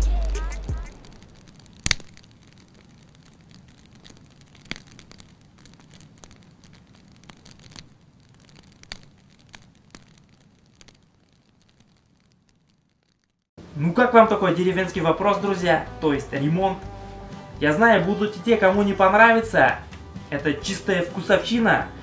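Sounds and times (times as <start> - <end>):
fire crackling sound effect: 0.0 - 22.0.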